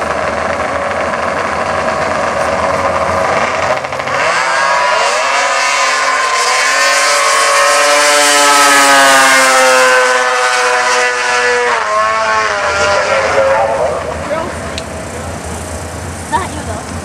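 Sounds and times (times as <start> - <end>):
snowmobile engines whining: 0.0 - 17.0.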